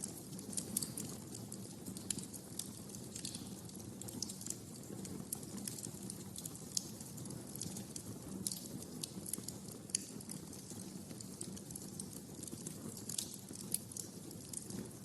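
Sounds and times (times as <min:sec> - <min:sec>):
wood fire crackling: 0:00.0 - 0:15.0
low rumble of flames: 0:00.1 - 0:15.0.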